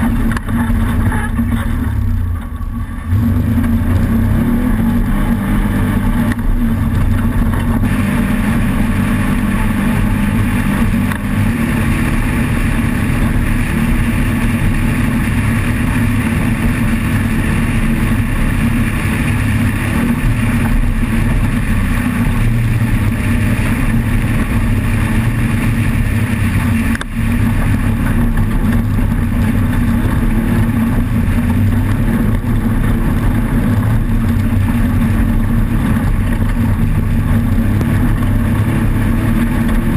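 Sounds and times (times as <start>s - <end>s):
ride rattle: 0.0s - 39.9s
vehicle engine running hard: 0.0s - 39.9s.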